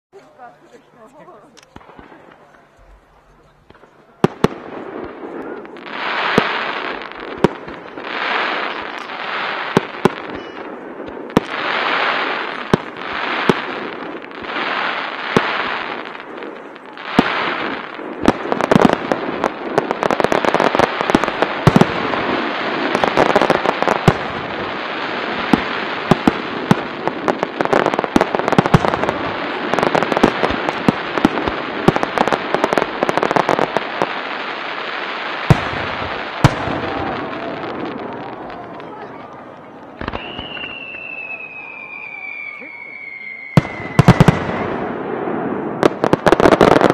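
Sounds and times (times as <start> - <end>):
firework crackle: 0.2 - 46.9
firework hissing: 4.6 - 46.9.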